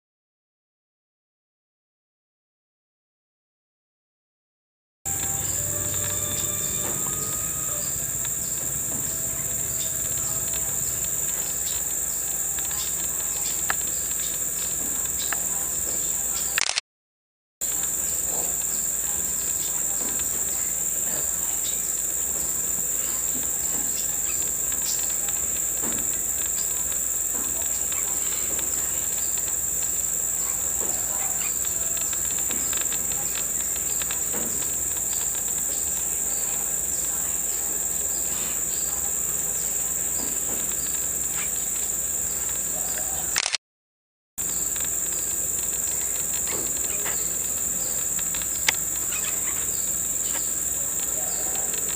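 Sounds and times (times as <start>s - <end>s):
high-pitched insect chorus: 5.1s - 16.6s, 17.6s - 43.4s, 44.4s - 51.9s.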